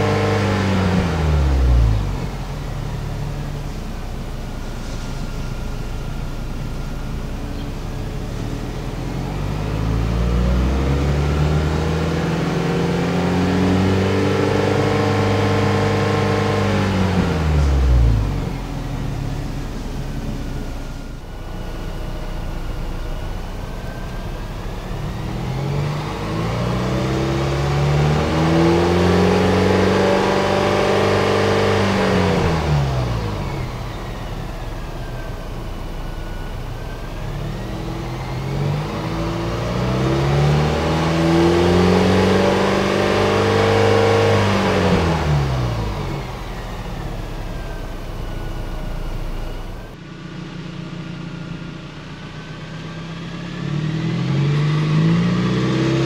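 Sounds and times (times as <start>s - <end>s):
truck engine revving: 0.0s - 3.7s, 7.3s - 50.0s.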